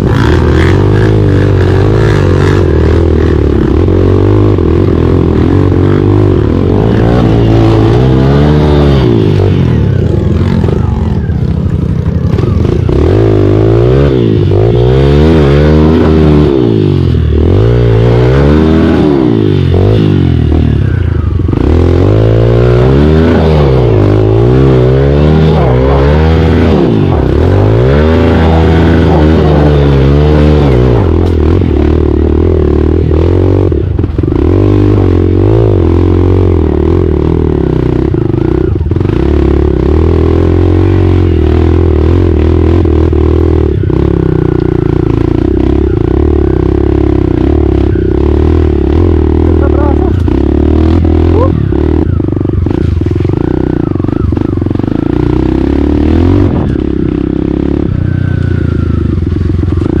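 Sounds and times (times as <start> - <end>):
motorcycle engine running loud: 0.0 - 60.0.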